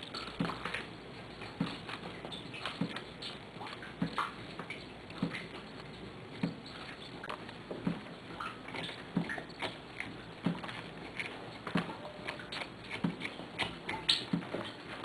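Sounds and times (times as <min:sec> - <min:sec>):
small drips ticking: 0:00.0 - 0:15.0
water dripping: 0:00.0 - 0:15.0.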